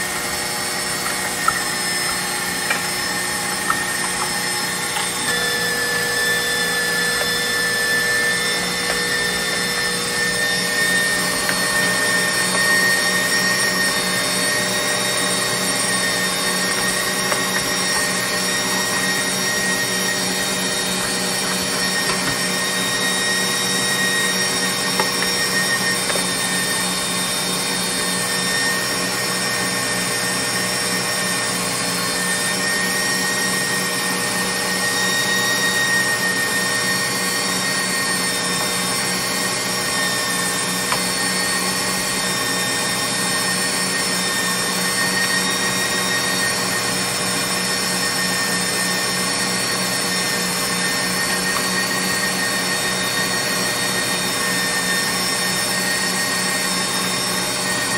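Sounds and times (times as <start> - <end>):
mixer motor humming with whine: 0.0 - 57.9.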